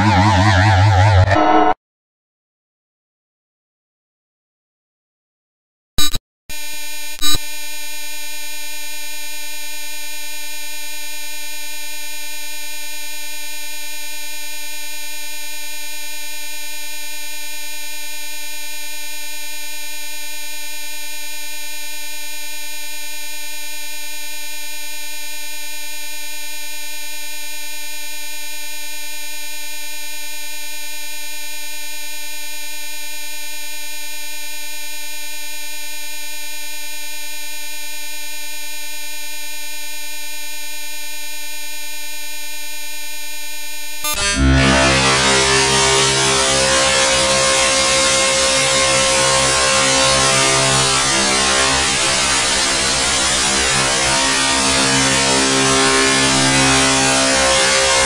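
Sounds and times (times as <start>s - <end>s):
electronic buzzing tone: 0.0s - 1.8s, 6.0s - 25.4s, 28.8s - 58.0s.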